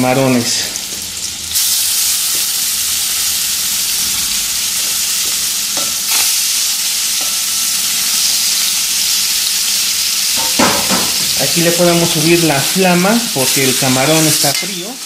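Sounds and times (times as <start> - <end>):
shrimp sizzling in a pan: 0.0 - 15.0.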